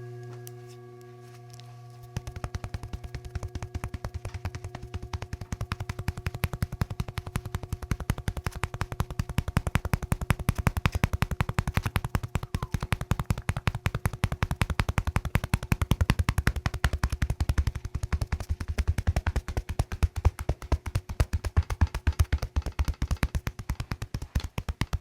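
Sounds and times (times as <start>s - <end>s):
faint steady hum: 0.0s - 25.0s
electric percussion device tapping: 2.0s - 25.0s.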